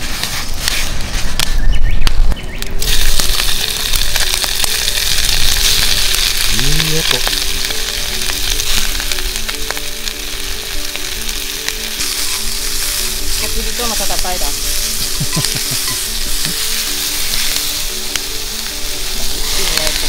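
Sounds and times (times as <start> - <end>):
meat sizzling in a skillet: 2.8 - 20.0.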